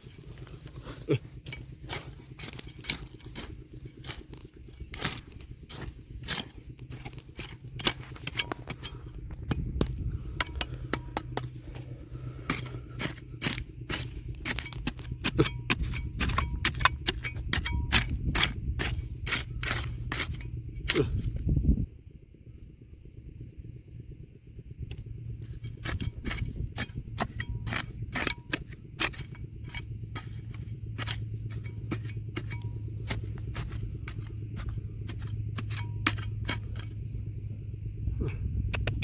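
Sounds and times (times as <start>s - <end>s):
tool scraping stony gravel: 0.0s - 21.8s, 24.9s - 39.0s
low rumble: 0.0s - 39.0s.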